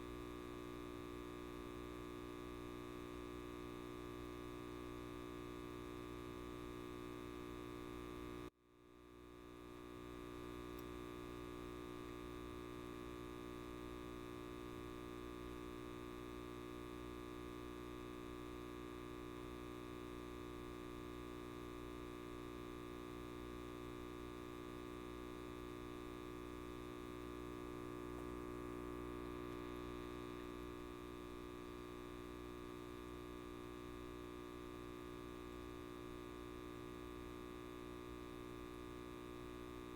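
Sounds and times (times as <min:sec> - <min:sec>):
light bulb buzzing: 0:00.0 - 0:39.9.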